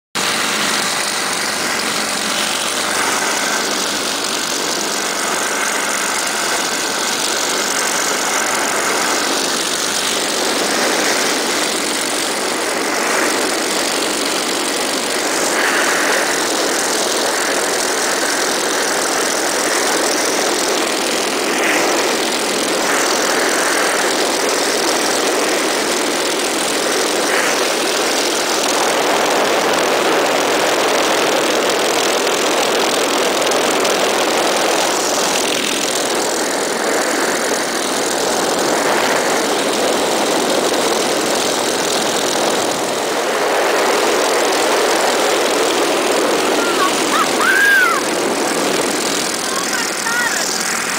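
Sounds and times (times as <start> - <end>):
propeller aircraft engine: 0.0 - 50.9
wind rush on microphone: 0.2 - 50.9.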